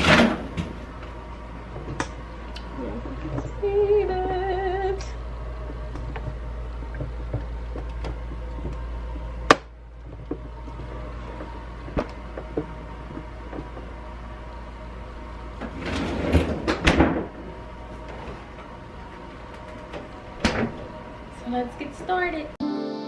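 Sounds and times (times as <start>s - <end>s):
low refrigerator hum: 0.0s - 22.6s.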